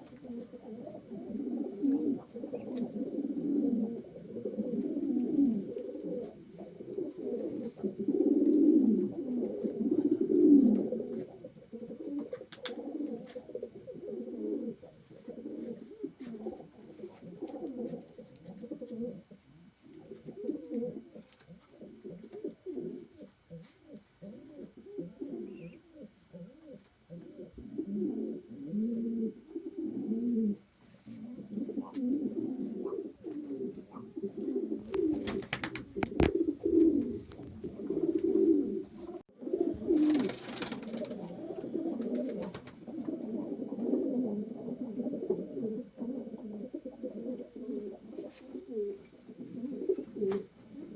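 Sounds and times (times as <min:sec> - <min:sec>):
pigeons cooing: 0:00.0 - 0:50.9.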